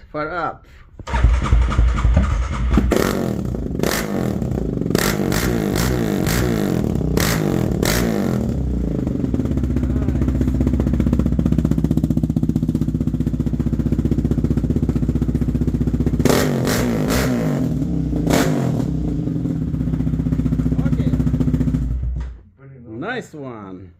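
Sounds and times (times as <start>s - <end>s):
engine revving and idling: 1.1s - 22.3s.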